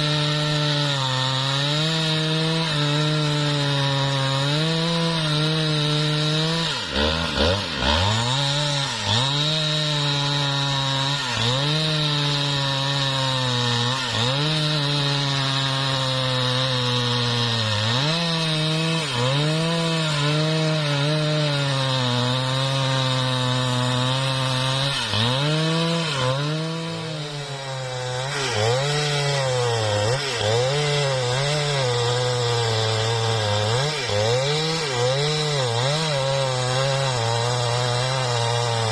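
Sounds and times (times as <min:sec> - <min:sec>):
chainsaw cutting through wood: 0:00.0 - 0:38.9.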